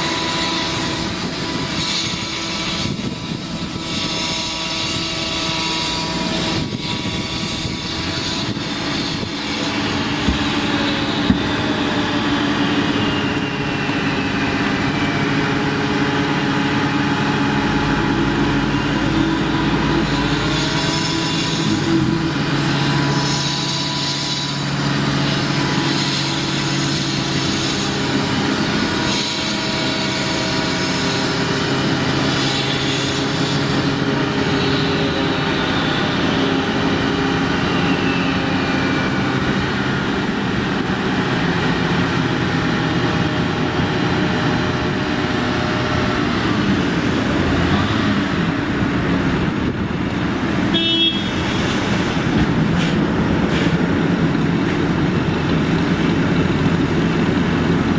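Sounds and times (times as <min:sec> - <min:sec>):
paving machinery engines humming: 0:00.0 - 0:57.9.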